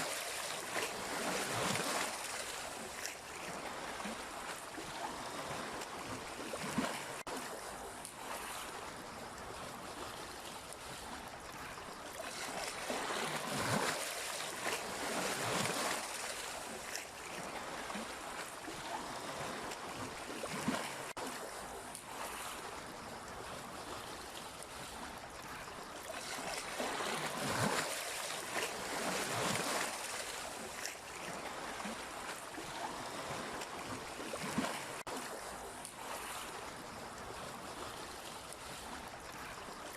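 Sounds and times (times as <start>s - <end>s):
sea waves splashing: 0.0s - 39.9s.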